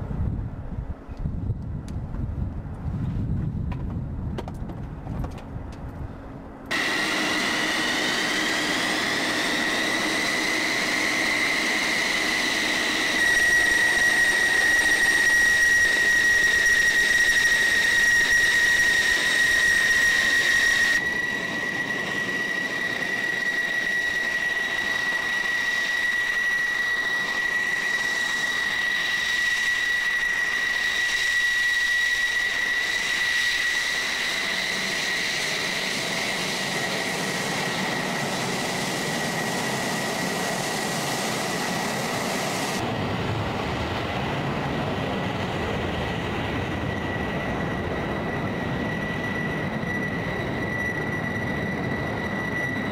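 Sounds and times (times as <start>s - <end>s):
jet engine idling whine: 0.0s - 52.9s.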